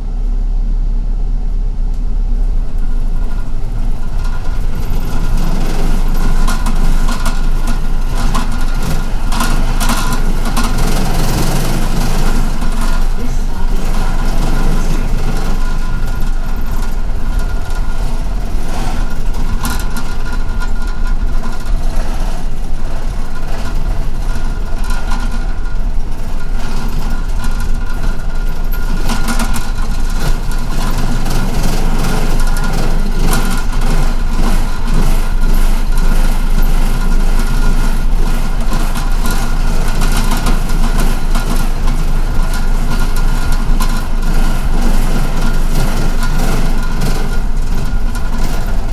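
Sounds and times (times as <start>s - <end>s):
bus cabin noise: 0.0s - 48.9s
bus engine rumbling: 0.0s - 48.9s.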